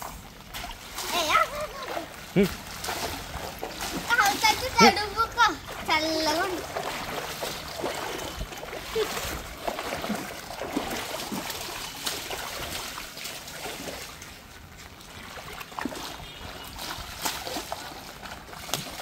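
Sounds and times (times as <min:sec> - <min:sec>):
feet splashing through water: 0:00.0 - 0:19.0.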